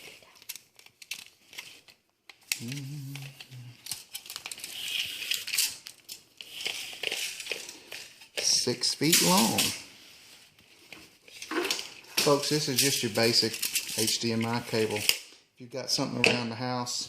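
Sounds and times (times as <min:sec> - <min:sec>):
cable crinkling and rustling: 0:00.0 - 0:15.3.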